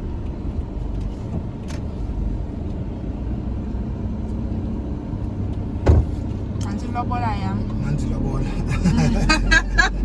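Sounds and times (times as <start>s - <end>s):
moving car rumble: 0.0s - 10.0s.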